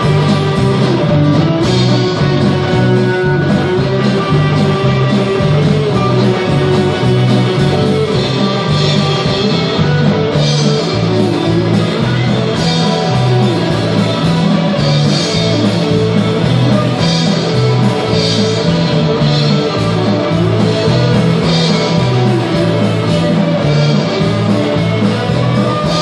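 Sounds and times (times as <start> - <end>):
drum kit: 0.0 - 26.0
guitars strumming: 0.0 - 26.0.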